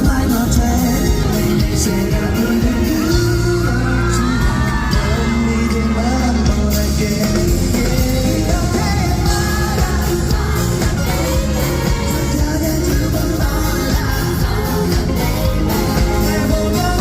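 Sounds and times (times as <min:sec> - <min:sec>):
live rock band playing: 0:00.0 - 0:17.0
man singing lead vocal: 0:00.0 - 0:17.0.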